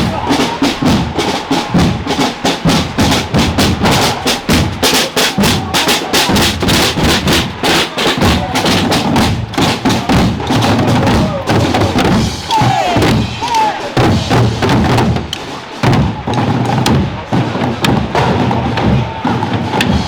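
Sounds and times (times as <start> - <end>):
drum band beating: 0.0 - 20.0.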